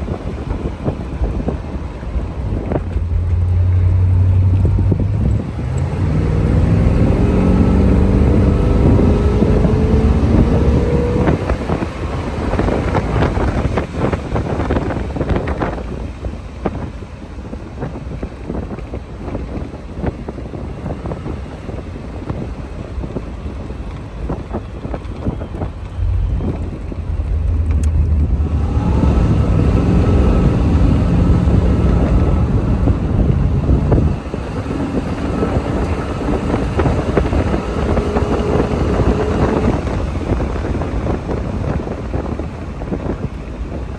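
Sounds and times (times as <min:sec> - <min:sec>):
car engine driving: 0:00.0 - 0:43.9
wind noise on microphone: 0:00.0 - 0:43.9.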